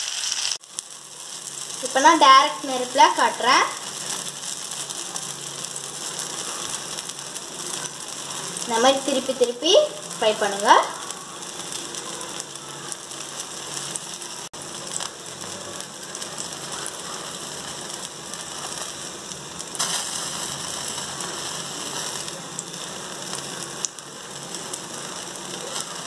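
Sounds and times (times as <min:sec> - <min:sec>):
food sizzling over gas flame: 0:00.0 - 0:26.0.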